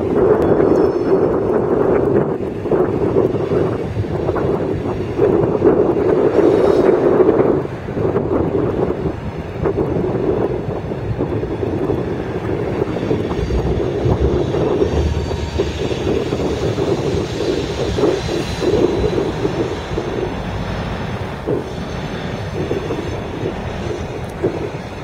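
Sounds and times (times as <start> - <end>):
diesel locomotive engines: 0.0 - 25.0
freight train rumbling past: 0.0 - 25.0
steel wheels on rails: 0.0 - 25.0.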